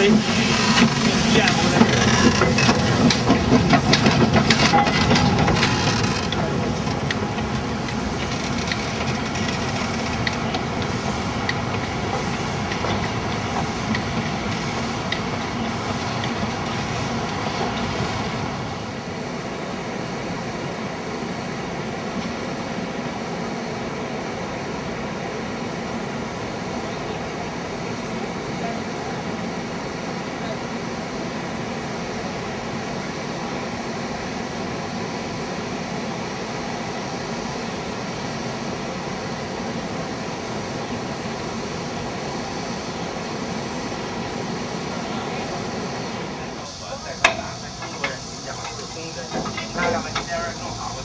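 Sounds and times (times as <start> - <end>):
steam hiss: 0.0 - 51.0
steam locomotive chuffing: 0.0 - 51.0.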